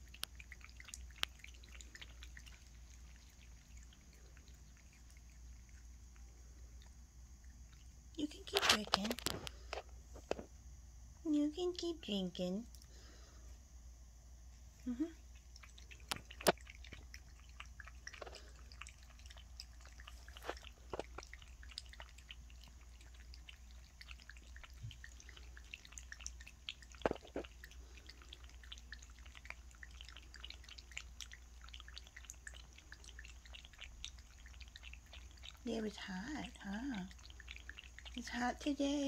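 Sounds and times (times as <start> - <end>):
cat lapping water from bowl: 0.0 - 10.4, 14.9 - 39.0.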